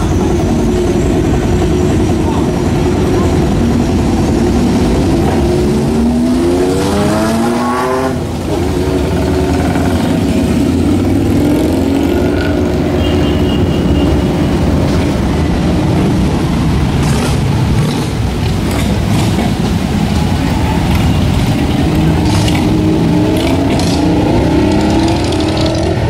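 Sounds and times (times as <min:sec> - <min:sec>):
motorcycle engine revving: 0:00.0 - 0:26.0
motorcycles riding past: 0:00.0 - 0:26.0
traffic rumble: 0:00.0 - 0:26.0.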